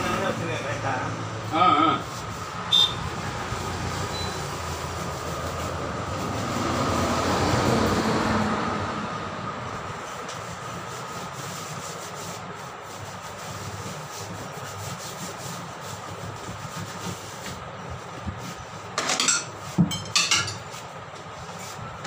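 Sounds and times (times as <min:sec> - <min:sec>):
inner tube rubbing inside tyre: 0:00.0 - 0:09.0, 0:09.6 - 0:19.0.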